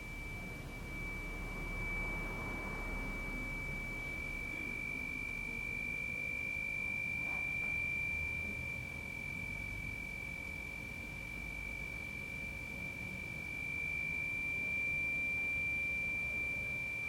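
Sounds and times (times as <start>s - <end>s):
steady high-pitched pure tone: 0.0s - 17.0s.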